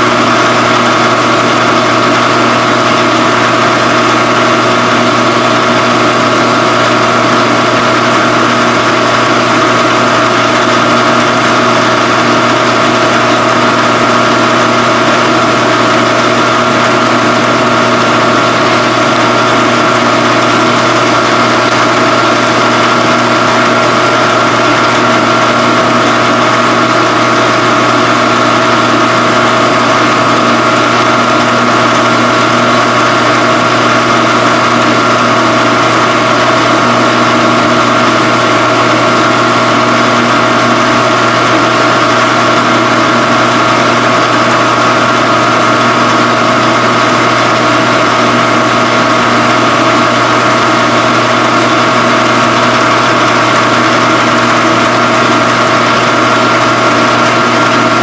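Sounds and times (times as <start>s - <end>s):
phase converter humming: 0.0s - 58.0s.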